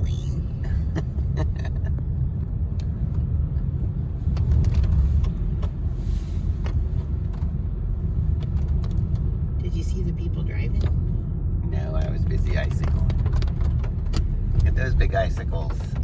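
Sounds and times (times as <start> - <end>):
car road noise rumble: 0.0 - 16.0.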